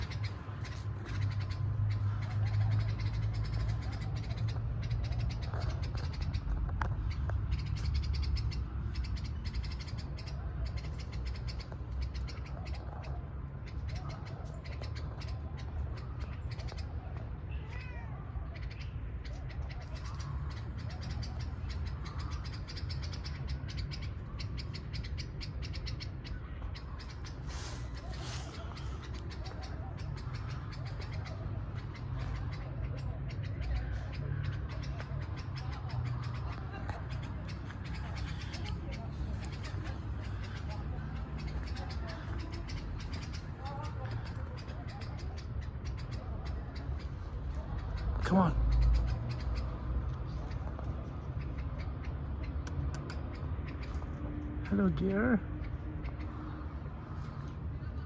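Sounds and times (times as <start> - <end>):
birds calling: 0.0 - 58.0.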